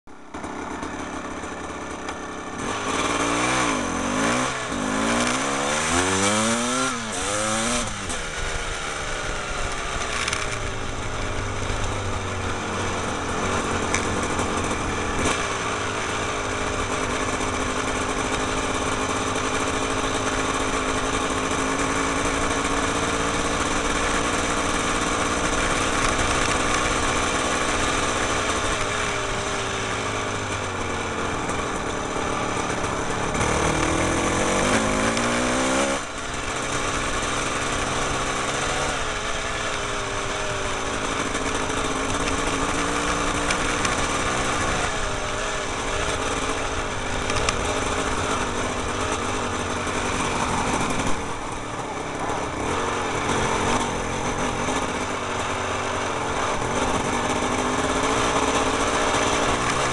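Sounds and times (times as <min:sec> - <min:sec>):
constant rushing noise: 0:00.1 - 0:59.9
small petrol engine revving: 0:00.1 - 0:59.9.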